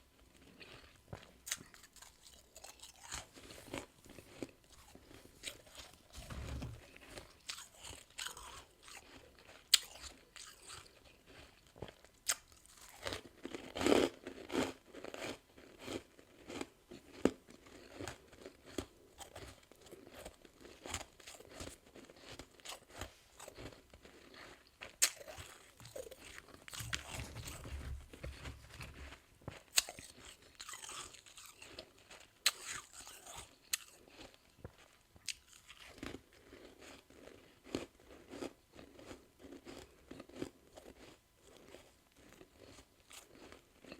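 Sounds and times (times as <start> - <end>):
person chewing crunchy frost: 0.2 - 43.9.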